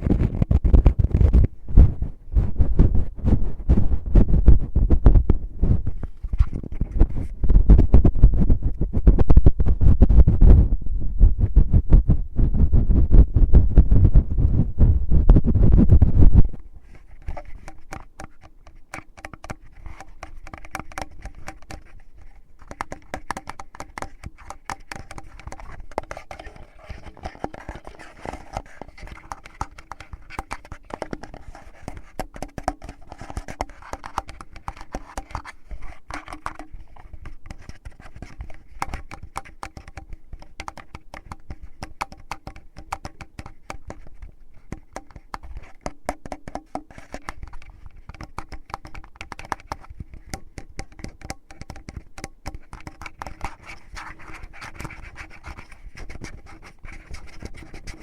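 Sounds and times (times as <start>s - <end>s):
fingers scratching microphone: 0.0s - 58.0s.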